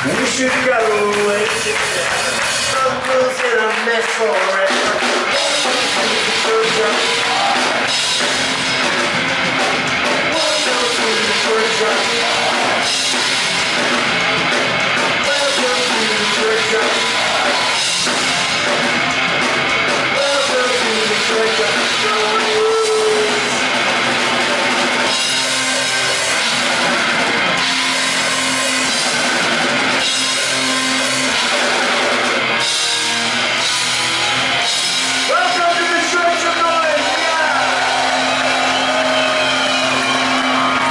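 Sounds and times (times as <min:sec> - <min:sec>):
driving drum kit: 0:00.0 - 0:40.9
electric guitar: 0:00.0 - 0:40.9
rock band playing live: 0:00.0 - 0:40.9.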